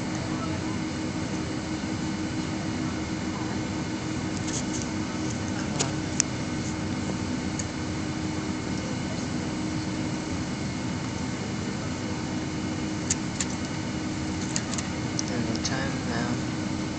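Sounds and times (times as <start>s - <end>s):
airliner cabin hum: 0.0s - 16.9s.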